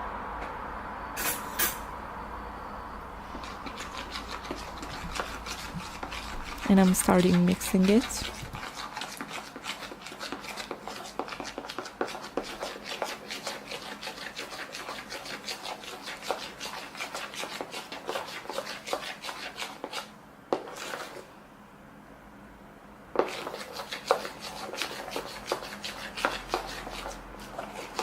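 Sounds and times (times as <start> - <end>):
stirrer scraping and clicking in container: 3.3 - 21.2, 23.2 - 28.0.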